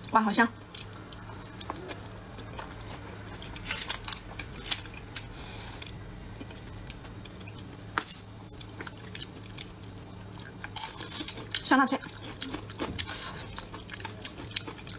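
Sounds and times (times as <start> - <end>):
faint steady hum: 0.0 - 14.9
person chewing food: 0.7 - 14.9.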